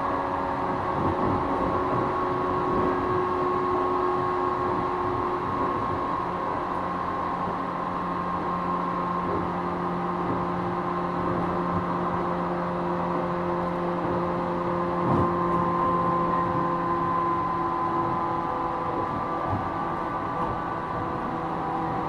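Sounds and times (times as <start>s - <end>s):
traction motors whining: 0.0s - 22.0s
wheels rumbling on rail: 0.0s - 22.0s.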